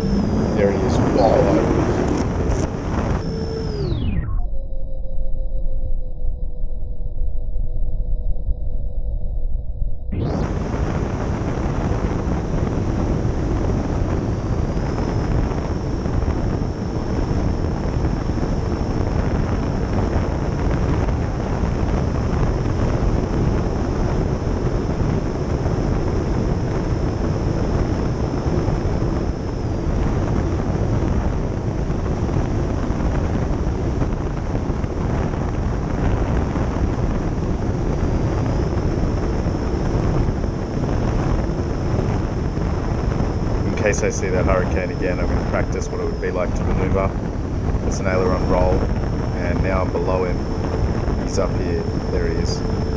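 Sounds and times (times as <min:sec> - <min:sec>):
electric ducted fans whining: 0:00.0 - 0:04.3, 0:10.2 - 0:52.9.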